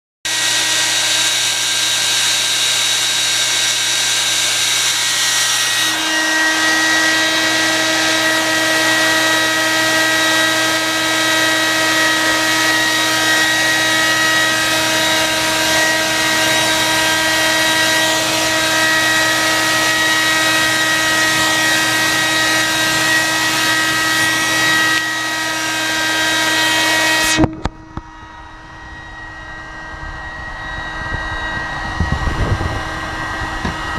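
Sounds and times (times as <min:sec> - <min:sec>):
hair dryer running: 0:00.3 - 0:33.9.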